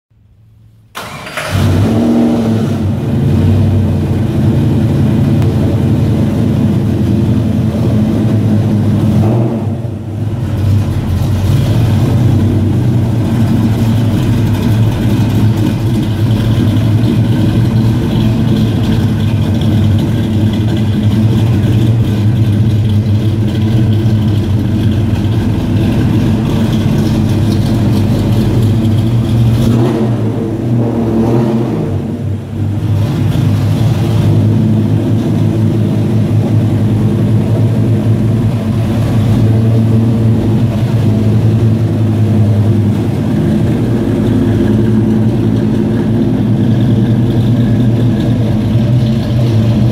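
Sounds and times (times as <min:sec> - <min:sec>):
pickup engine starting and running: 0:00.1 - 0:49.9.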